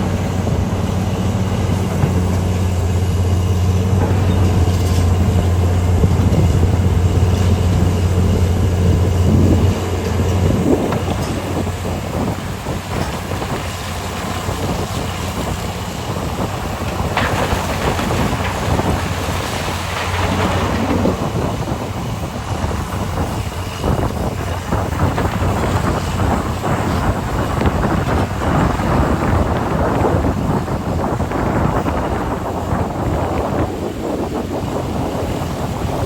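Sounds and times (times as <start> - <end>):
diesel engines rumbling: 0.0 - 36.0
wind buffeting microphone: 0.0 - 36.0.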